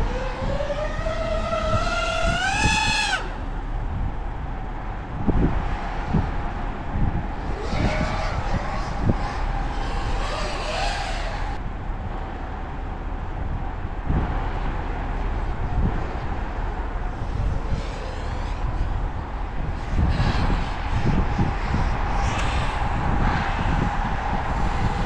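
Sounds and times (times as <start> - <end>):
drone propellers droning: 0.0 - 25.0
low rumble: 0.0 - 25.0.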